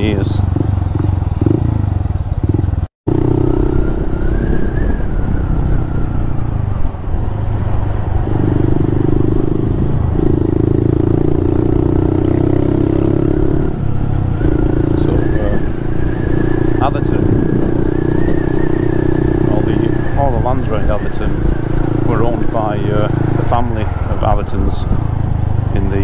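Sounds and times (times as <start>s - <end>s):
motorcycle engine running: 0.0s - 6.1s, 7.5s - 26.0s.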